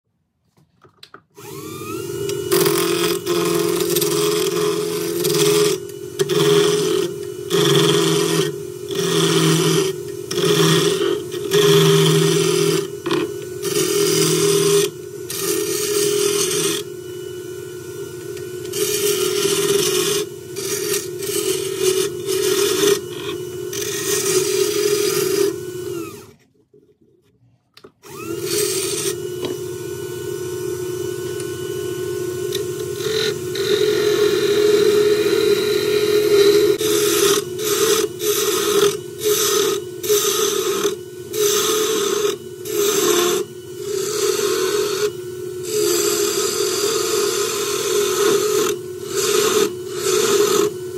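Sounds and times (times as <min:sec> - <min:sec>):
turning tool cutting wood: 0:01.4 - 0:26.4, 0:28.0 - 0:50.9
wood lathe humming: 0:01.4 - 0:26.4, 0:28.0 - 0:50.9.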